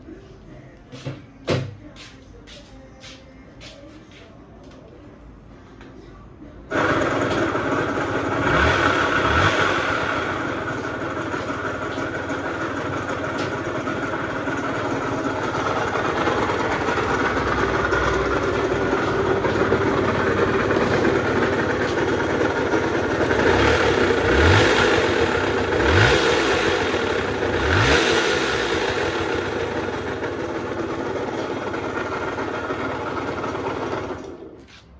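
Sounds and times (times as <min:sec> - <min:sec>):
moped engine running: 0:06.7 - 0:34.8
moped throttle blips: 0:06.7 - 0:34.8.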